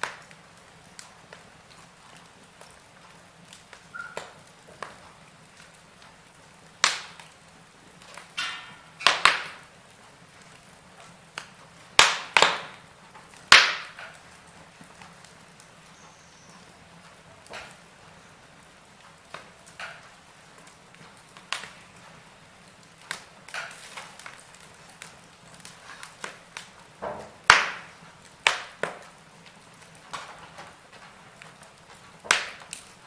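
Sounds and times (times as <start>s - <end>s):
fire hissing: 0.0s - 33.0s
wood fire crackling and popping: 0.0s - 33.0s.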